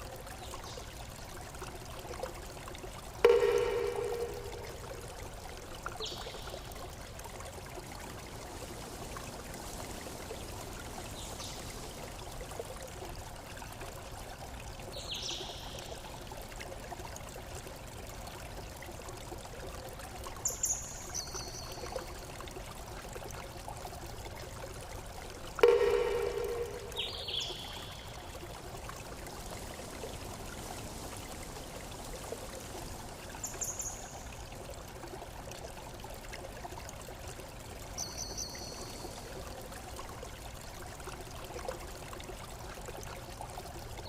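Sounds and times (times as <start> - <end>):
running water: 0.0 - 44.0.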